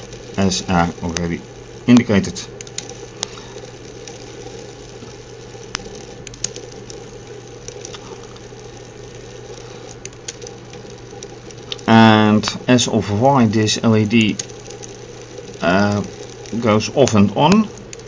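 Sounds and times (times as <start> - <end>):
faint clicks: 0.0 - 12.8, 13.8 - 18.0
small electric motor running: 0.0 - 18.0.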